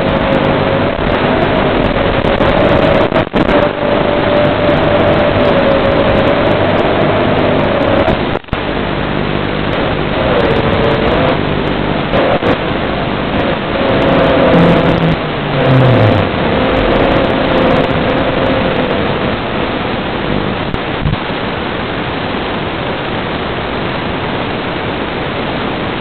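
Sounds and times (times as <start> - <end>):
video link hiss: 0.0 - 26.0.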